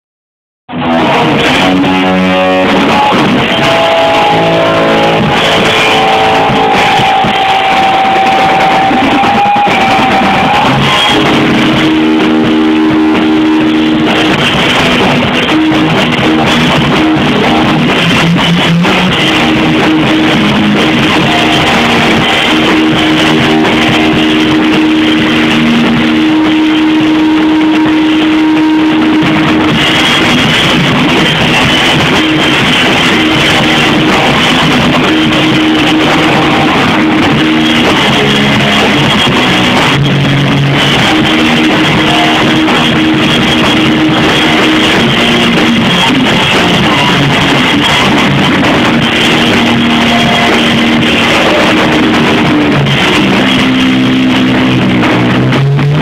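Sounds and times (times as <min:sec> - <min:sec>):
electric guitar long held notes: 0:00.7 - 0:56.0
muffled rock band: 0:00.7 - 0:56.0.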